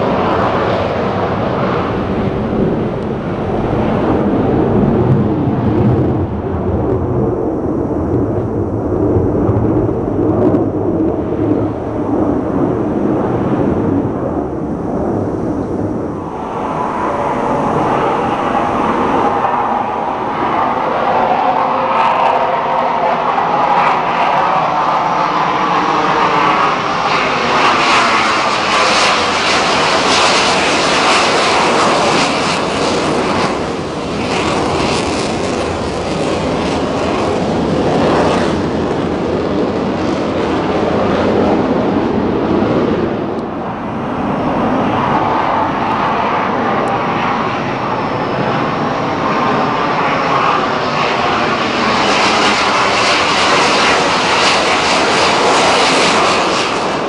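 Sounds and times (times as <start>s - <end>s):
jet aircraft roar: 0.0s - 57.0s.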